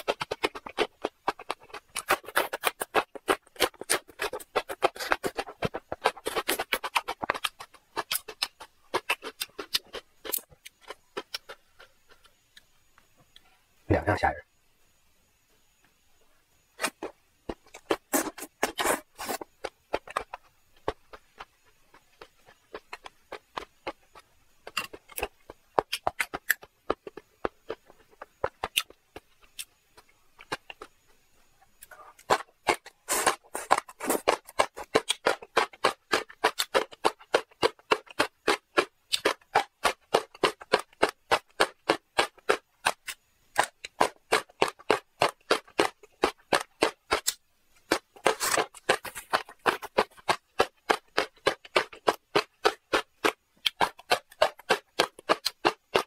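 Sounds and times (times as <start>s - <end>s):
close chewing and crunching: 0.0s - 12.3s, 16.8s - 31.0s, 31.7s - 56.0s.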